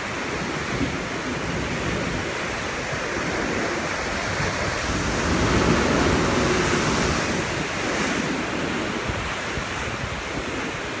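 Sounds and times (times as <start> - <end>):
surf breaking against rocks: 0.2 - 10.1.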